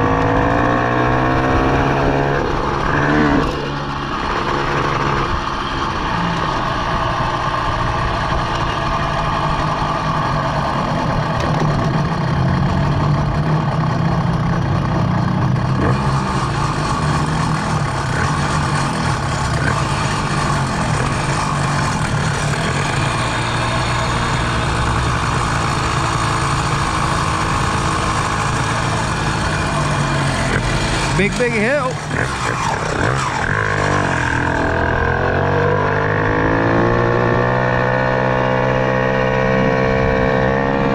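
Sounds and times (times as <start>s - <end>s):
two-stroke scooter engine running: 0.0s - 40.9s.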